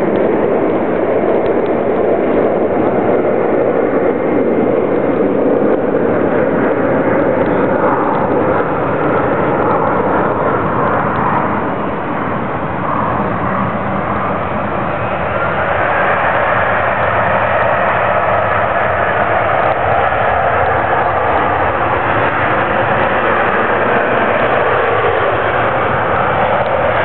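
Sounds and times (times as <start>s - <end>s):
jet engines at takeoff: 0.0s - 27.0s.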